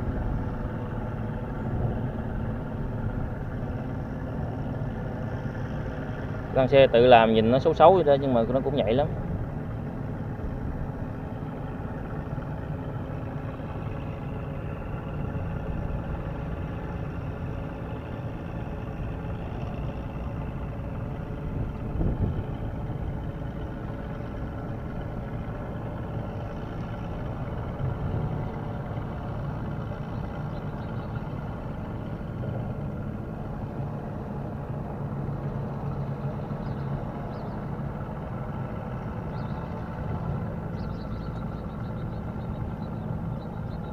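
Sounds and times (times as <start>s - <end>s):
low engine drone: 0.0s - 43.9s.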